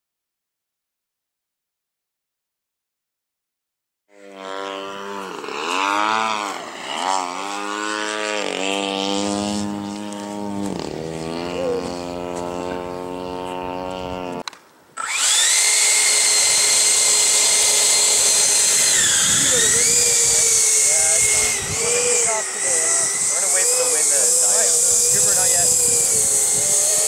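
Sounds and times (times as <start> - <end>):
electric ducted fans whining: 4.3 - 27.0.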